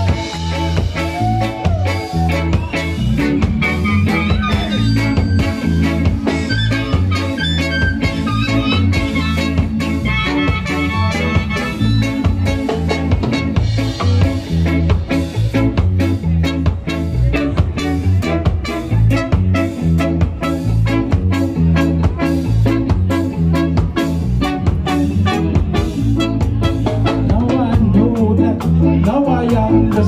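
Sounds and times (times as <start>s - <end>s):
live ska band playing: 0.0s - 30.0s.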